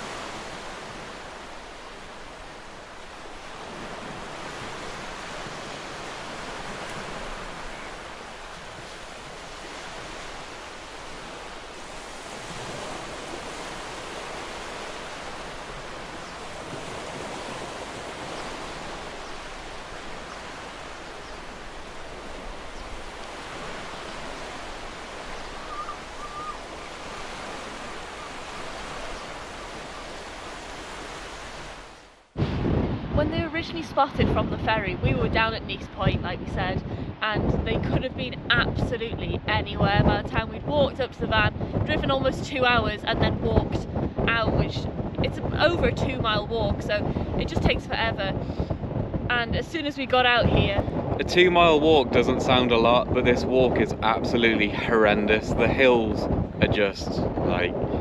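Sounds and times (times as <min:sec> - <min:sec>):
sea surf on rocky shore: 0:00.0 - 0:58.0.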